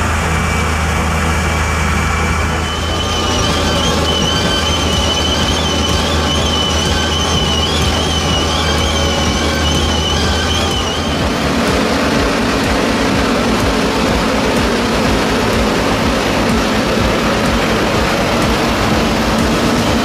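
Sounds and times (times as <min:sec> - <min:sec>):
low steady tractor engine drone: 0:00.0 - 0:20.0
tractor engine with wavering whine: 0:00.0 - 0:20.0.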